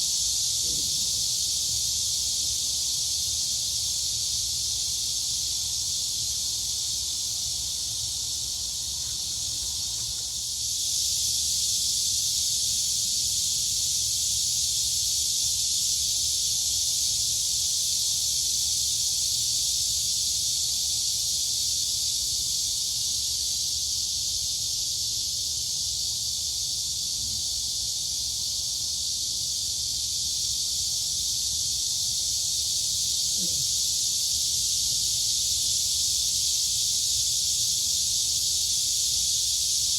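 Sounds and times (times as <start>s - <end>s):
crickets and cicadas buzzing: 0.0s - 39.9s.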